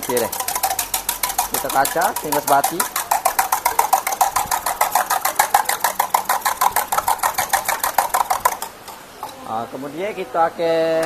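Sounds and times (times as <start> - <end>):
eggs beaten in a bowl: 0.0 - 10.3.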